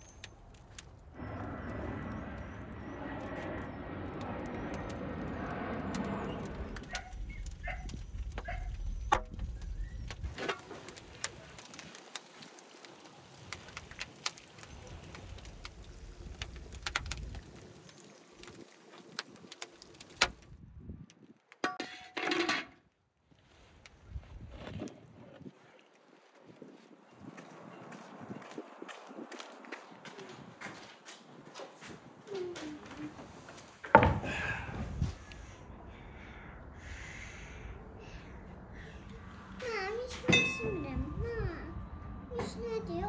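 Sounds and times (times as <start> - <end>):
wood fire crackling: 0.0 - 21.6, 23.2 - 43.0.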